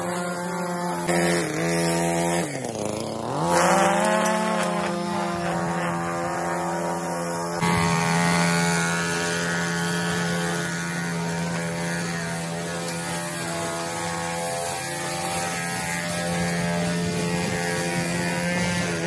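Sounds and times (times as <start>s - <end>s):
string trimmer cutting grass: 0.0s - 19.0s.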